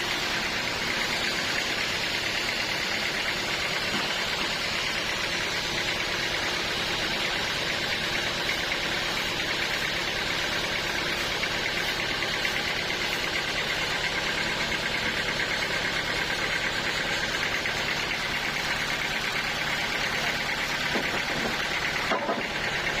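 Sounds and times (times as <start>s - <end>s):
sawmill machinery pulsing hum: 0.0s - 23.0s.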